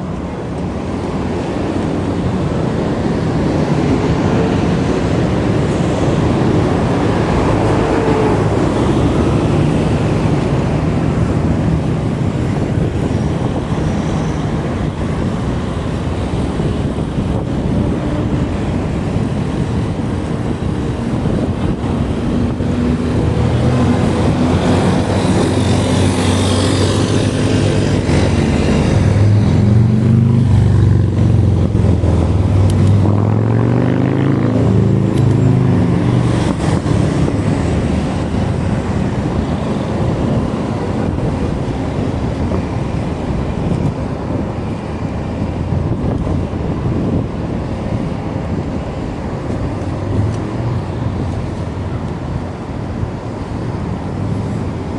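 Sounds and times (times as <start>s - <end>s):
road noise: 0.0s - 54.9s
wind rushing on microphone: 0.0s - 54.9s.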